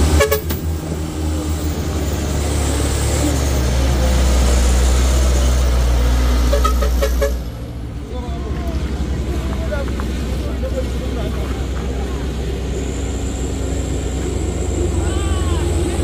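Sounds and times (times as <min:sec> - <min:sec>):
heavy truck engine droning: 0:00.0 - 0:16.0.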